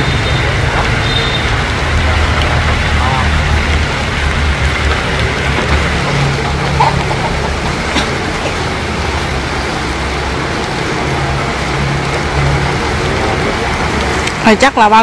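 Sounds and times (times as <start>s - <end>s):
falling rain hiss: 0.0s - 15.0s
road traffic rumble: 0.0s - 15.0s.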